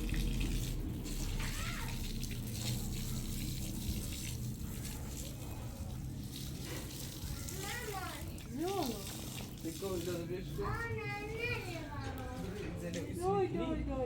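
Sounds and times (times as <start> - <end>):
water running: 0.0 - 13.0.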